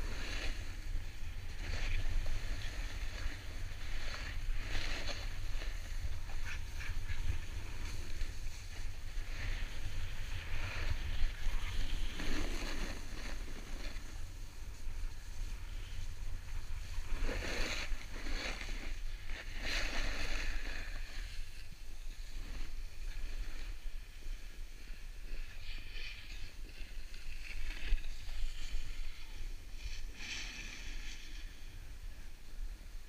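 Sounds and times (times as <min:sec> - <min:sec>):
snowboard scraping on snow: 0:00.0 - 0:33.0
wind rumble on microphone: 0:00.0 - 0:33.0.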